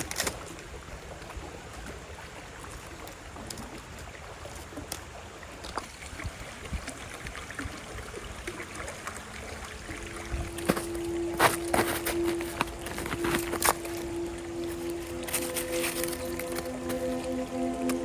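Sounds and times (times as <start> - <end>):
slow river flowing: 0.0 - 18.0.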